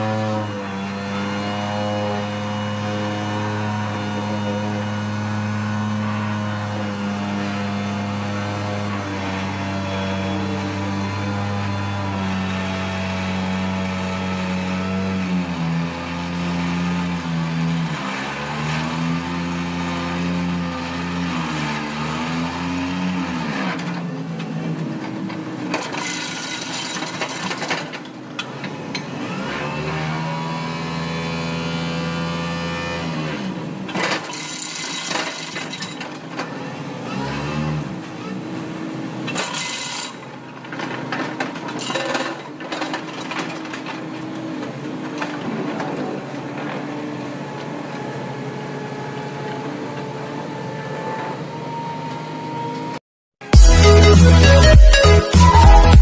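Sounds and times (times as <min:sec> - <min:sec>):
excavator with vibratory pile driver: 0:00.0 - 0:56.0.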